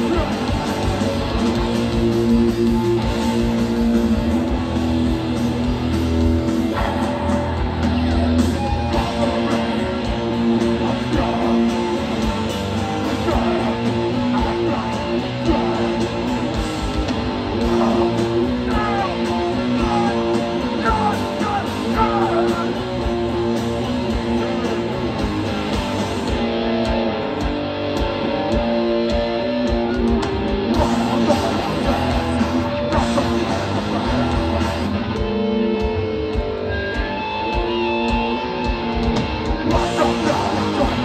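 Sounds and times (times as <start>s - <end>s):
punk band playing live: 0.0s - 41.0s.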